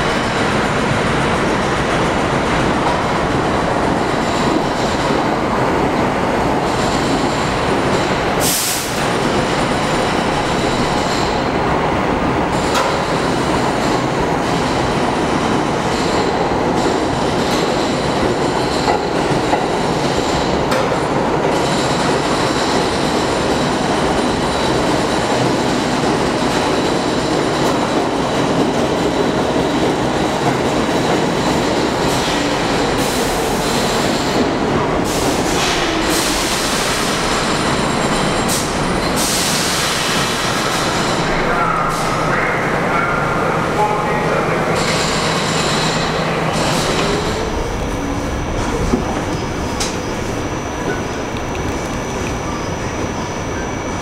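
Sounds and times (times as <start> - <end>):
subway train rumbling past: 0.0 - 54.0.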